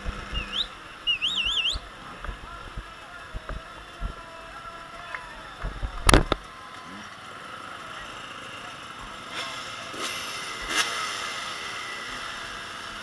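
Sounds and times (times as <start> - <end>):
distant motocross bike engines revving: 0.0 - 13.0.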